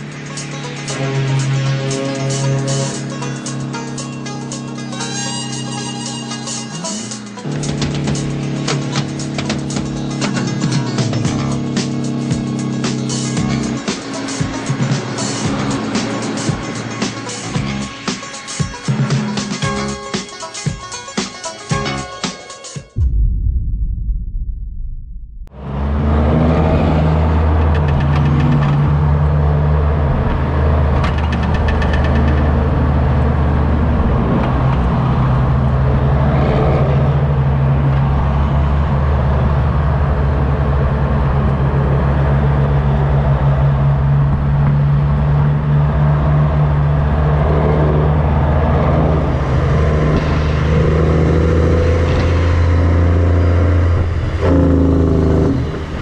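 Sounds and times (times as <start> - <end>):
diesel truck engine droning: 0.0 - 22.1, 25.4 - 56.0.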